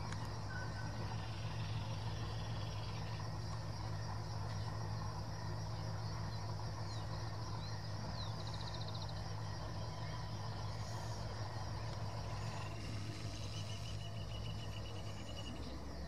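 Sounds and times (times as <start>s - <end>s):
birds chirping: 0.0s - 16.0s
distant freight train rumbling: 0.0s - 16.0s.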